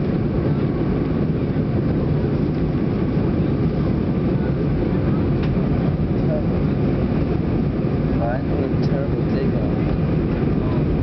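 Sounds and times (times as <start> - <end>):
jet engines rumbling in cabin: 0.0 - 11.0
rushing airflow: 0.0 - 11.0.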